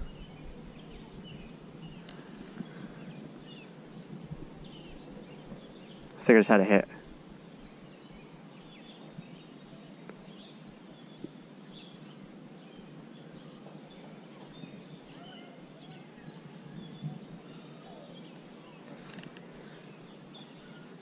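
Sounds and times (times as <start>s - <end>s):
small birds chirping: 0.0s - 21.0s
steady low background noise: 0.0s - 21.0s.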